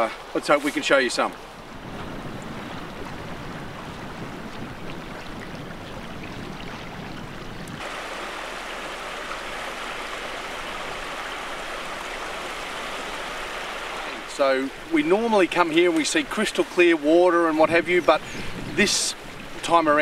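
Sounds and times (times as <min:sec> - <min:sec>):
creek running over stones: 0:00.0 - 0:20.0
water rushing with deep rumble: 0:00.0 - 0:20.0.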